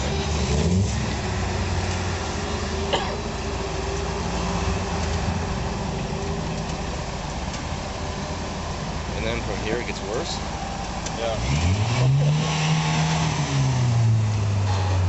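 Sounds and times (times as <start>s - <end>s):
truck engine at low revs: 0.0s - 15.0s.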